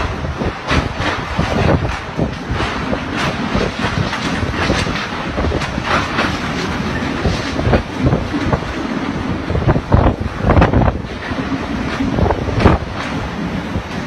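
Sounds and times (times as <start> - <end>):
knocks and rattles: 0.0 - 14.0
wind gusting against microphone: 0.0 - 14.0.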